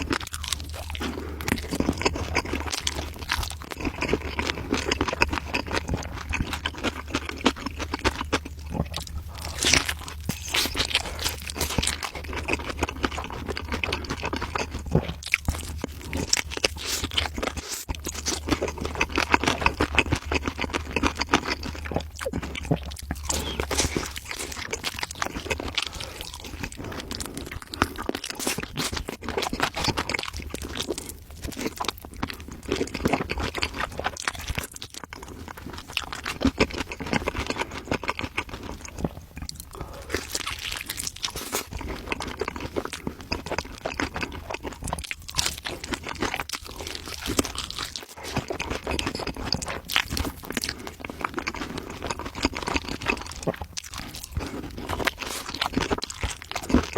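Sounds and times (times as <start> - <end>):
crunchy food chewing: 0.0 - 56.9.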